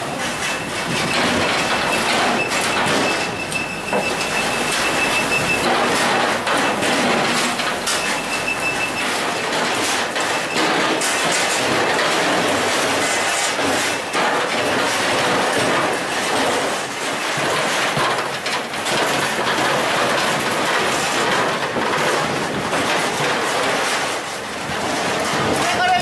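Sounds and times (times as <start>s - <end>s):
machinery clattering: 0.0s - 26.0s.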